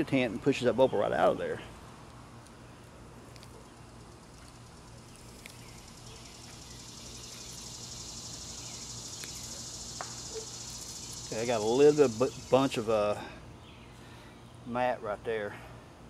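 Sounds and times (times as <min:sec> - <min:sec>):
insects chirring: 0:00.6 - 0:15.3.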